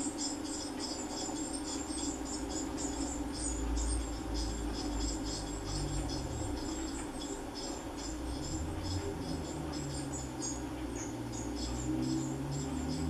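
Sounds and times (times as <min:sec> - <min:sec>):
nestlings begging chirps: 0:00.0 - 0:13.0
low hum: 0:02.2 - 0:13.0.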